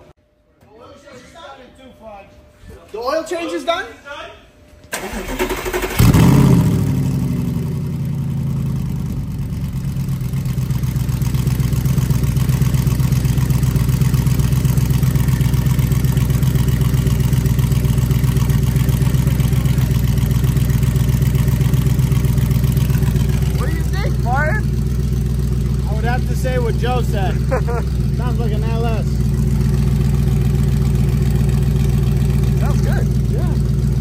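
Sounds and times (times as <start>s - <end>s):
car engine starting and idling: 4.9s - 34.0s.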